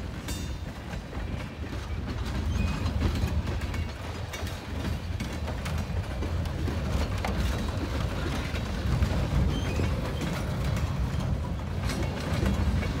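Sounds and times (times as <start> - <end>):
freight train rumbling: 0.0 - 13.0
wheels clicking over rail joints: 0.0 - 13.0.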